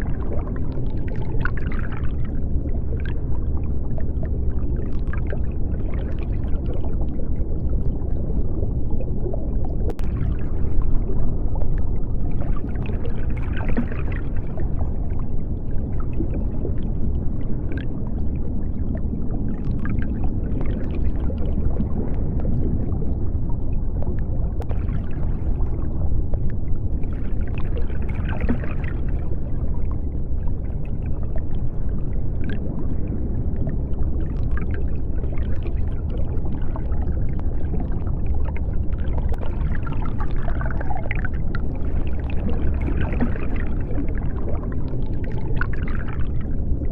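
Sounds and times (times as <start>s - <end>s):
deep underwater rumble: 0.0s - 46.9s
faint underwater crackling: 0.0s - 46.9s.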